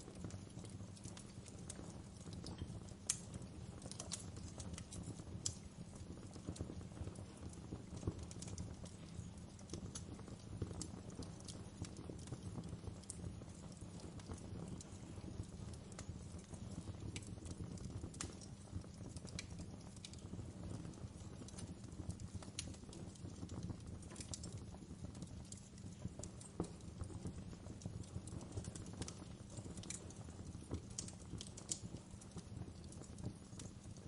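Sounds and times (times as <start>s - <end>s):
low rumble of flames: 0.0s - 34.0s
wood fire crackles and pops: 0.0s - 34.0s.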